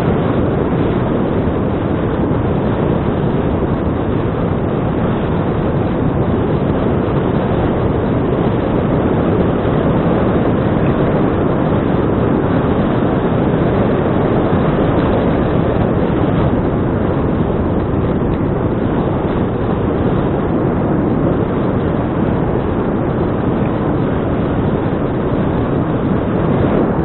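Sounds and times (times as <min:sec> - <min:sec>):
wind rush on microphone: 0:00.0 - 0:27.0.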